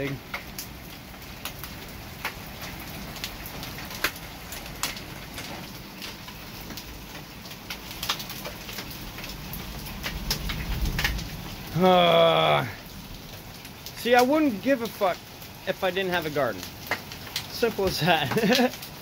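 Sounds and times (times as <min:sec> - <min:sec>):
hailstones striking: 0:00.0 - 0:19.0
steady rain: 0:00.0 - 0:19.0.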